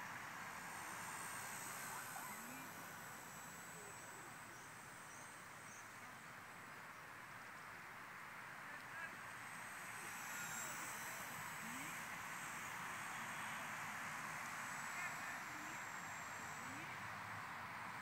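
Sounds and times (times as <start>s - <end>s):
model helicopter motor whine: 0.0s - 18.0s.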